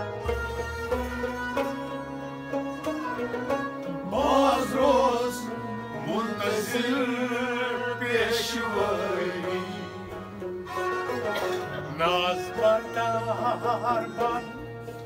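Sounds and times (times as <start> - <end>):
plucked string notes: 0.0 - 15.0
steady held notes: 0.0 - 15.0
wavering melody with vibrato: 0.0 - 15.0.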